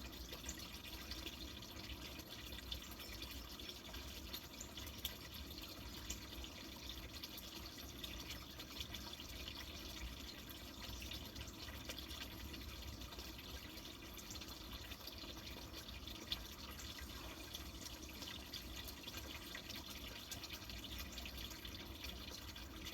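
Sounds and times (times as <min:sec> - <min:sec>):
water trickling and splashing: 0:00.0 - 0:22.9
water dripping: 0:00.1 - 0:22.9.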